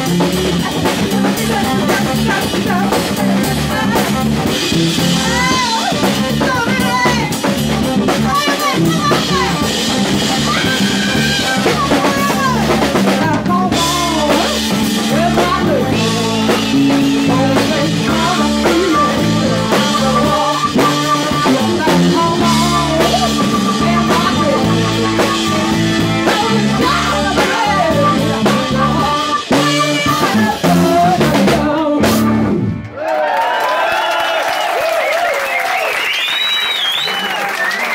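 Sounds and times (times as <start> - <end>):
drum kit: 0.0 - 32.9
electric guitar: 0.0 - 33.0
keyboard: 0.0 - 33.0
bass: 0.0 - 33.1
woman singing: 0.2 - 7.4, 8.1 - 9.8, 10.4 - 32.6.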